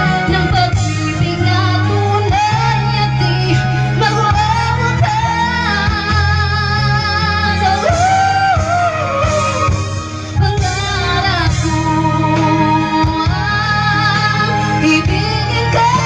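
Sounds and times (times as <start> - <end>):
karaoke backing track: 0.0 - 16.0
woman singing ballad: 0.0 - 16.0.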